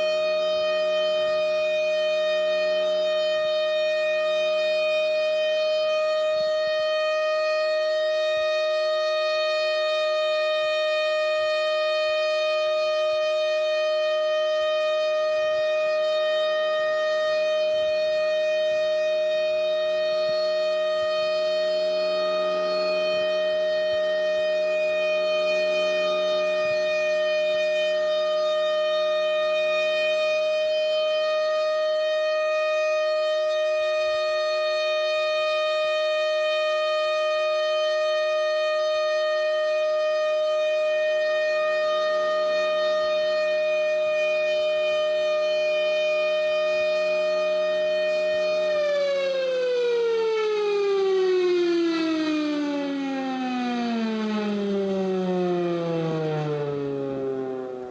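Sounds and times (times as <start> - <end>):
warning siren steady tone: 0.0 - 57.9.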